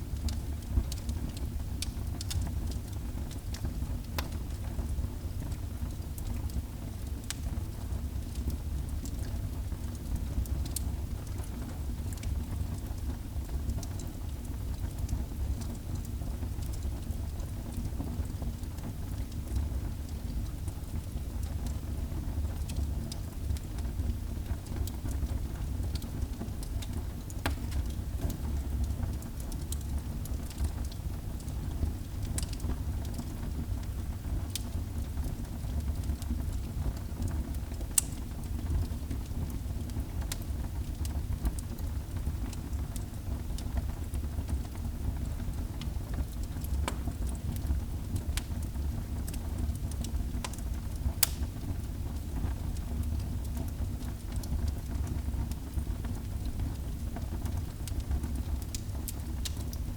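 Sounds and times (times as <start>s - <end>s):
fire crackling and popping: 0.1s - 59.9s.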